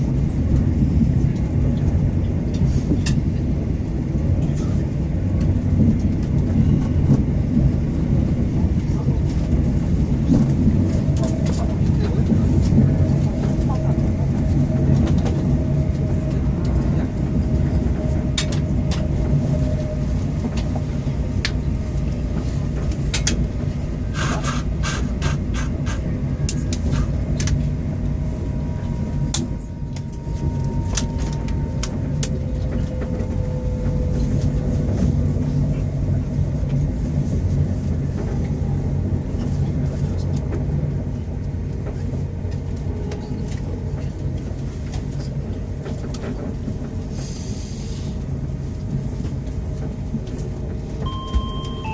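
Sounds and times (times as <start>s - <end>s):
train carriage rumbling: 0.0s - 51.9s.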